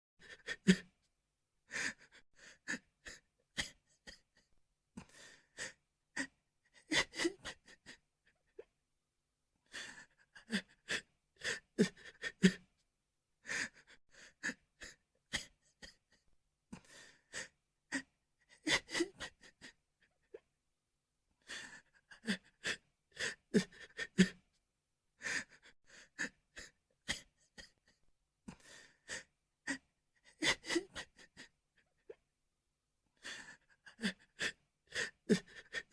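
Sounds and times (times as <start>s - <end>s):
person sobbing: 0.2s - 0.9s, 1.7s - 8.7s, 9.6s - 12.7s, 13.4s - 20.5s, 21.4s - 24.4s, 25.2s - 32.2s, 33.2s - 35.9s.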